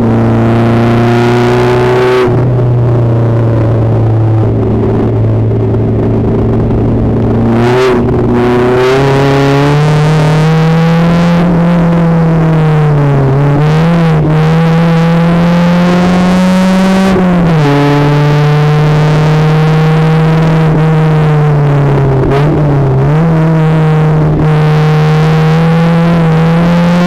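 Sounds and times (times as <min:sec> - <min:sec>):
race car engine from inside cabin: 0:00.0 - 0:27.0.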